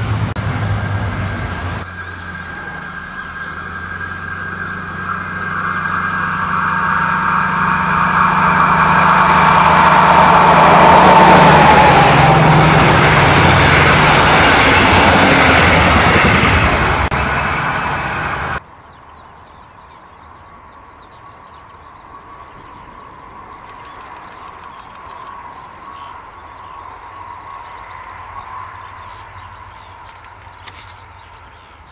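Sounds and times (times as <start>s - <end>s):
train wheels rushing on rail: 0.0s - 18.6s, 22.6s - 31.6s
distant train hum: 0.0s - 31.9s
birds chirping: 0.8s - 31.9s.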